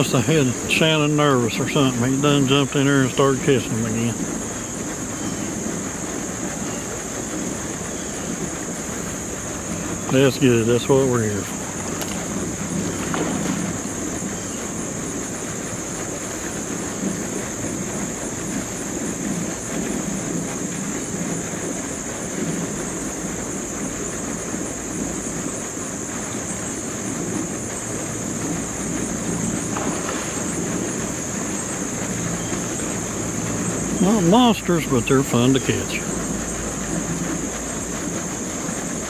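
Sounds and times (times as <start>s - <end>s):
insects trilling: 0.0s - 39.0s
low uneven rumble: 0.0s - 39.0s.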